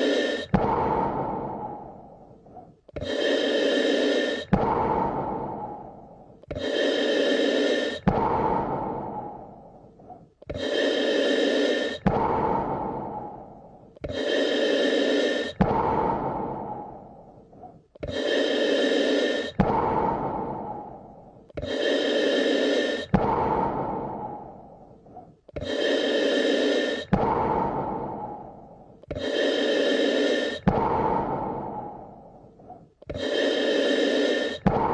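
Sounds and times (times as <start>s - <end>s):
person breathing slowly: 0.0s - 34.9s.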